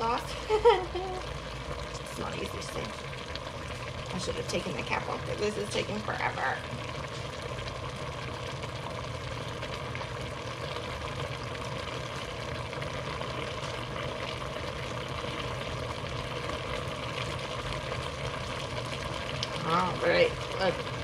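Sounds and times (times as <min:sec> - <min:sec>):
pot sizzling on stovetop: 0:00.0 - 0:21.0
steady low hum: 0:00.0 - 0:21.0.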